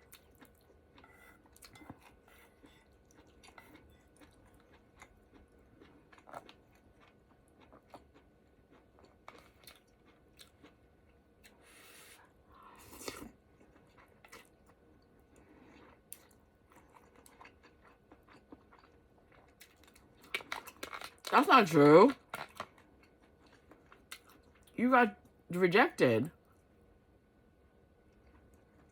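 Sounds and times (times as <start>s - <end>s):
close chewing and mouth clicks: 0.0s - 25.4s, 28.0s - 28.9s.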